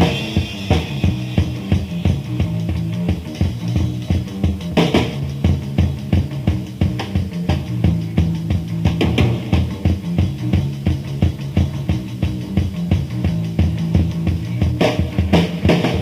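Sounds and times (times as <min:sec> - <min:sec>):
fast drum beat: 0:00.0 - 0:16.0
punk rock bass line: 0:00.0 - 0:16.0.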